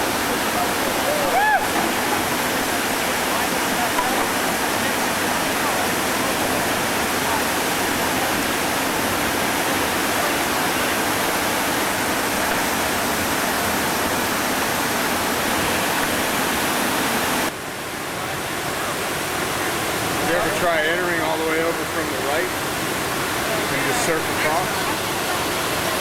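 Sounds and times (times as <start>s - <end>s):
whitewater rapid roaring: 0.0s - 26.0s.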